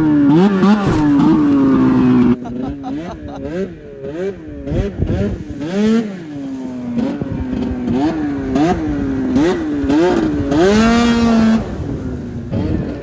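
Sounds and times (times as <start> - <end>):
snowmobile engine revving: 0.0 - 13.0.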